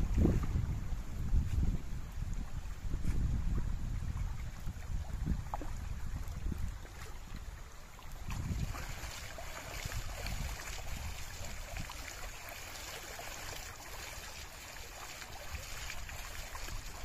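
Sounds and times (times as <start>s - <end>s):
fish splashing in shallow water: 1.9s - 17.0s.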